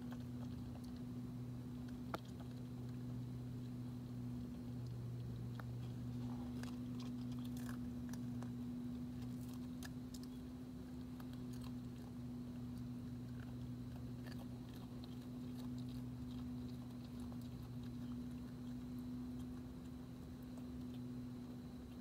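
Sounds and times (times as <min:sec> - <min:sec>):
animal crunching food: 0:00.0 - 0:22.0
steady low hum: 0:00.0 - 0:22.0.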